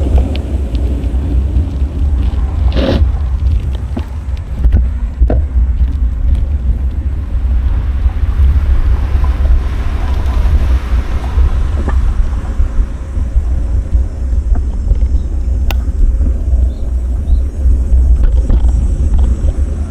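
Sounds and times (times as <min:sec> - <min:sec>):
faint road noise: 0:00.0 - 0:19.9
wind buffeting microphone: 0:00.0 - 0:19.9.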